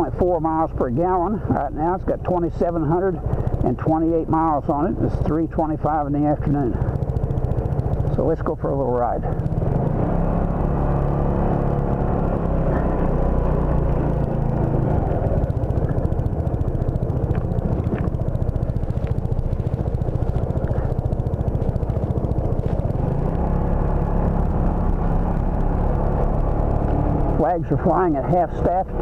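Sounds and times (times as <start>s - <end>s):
motor scooter engine: 0.0s - 29.0s.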